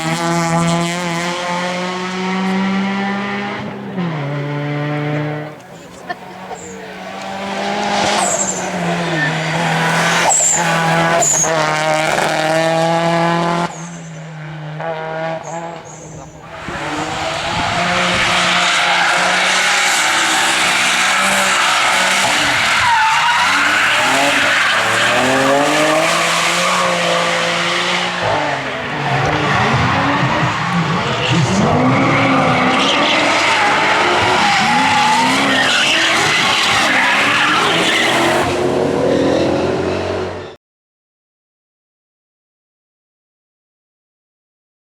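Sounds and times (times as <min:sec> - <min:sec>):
race car engine revving: 0:00.0 - 0:40.4.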